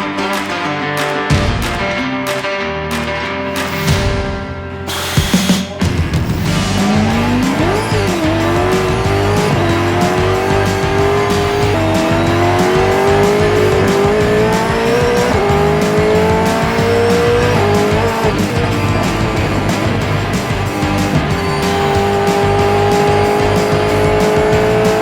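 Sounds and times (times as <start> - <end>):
music: 0.0 - 25.0
car engine at full throttle: 4.9 - 25.0.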